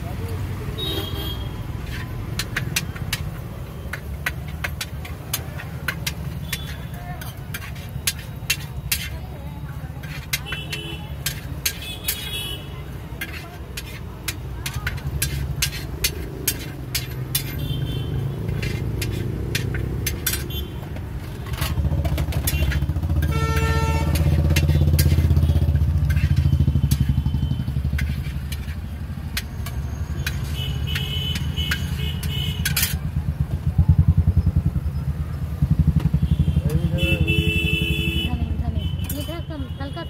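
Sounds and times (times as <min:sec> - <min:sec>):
ladle and spatula on steel pan: 0:00.0 - 0:33.6, 0:38.8 - 0:40.0
street traffic rumble: 0:00.0 - 0:40.0.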